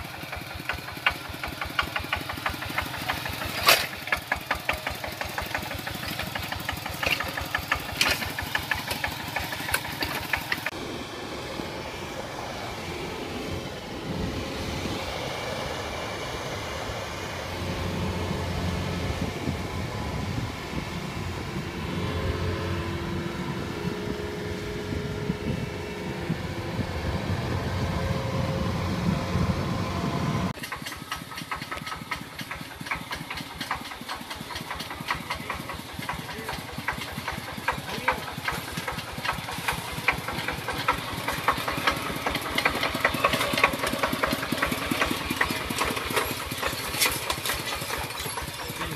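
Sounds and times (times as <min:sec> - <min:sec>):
combine harvester running: 0:00.0 - 0:48.9
walking tractor diesel putter: 0:00.0 - 0:48.9.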